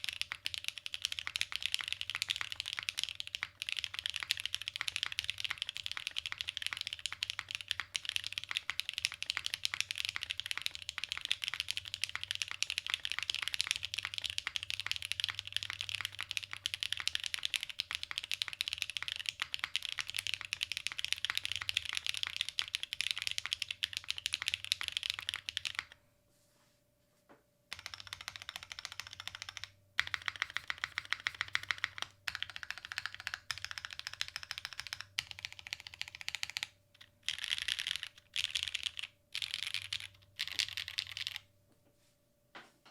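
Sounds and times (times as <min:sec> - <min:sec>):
fast mechanical keyboard typing: 0:00.0 - 0:26.0, 0:27.7 - 0:41.5.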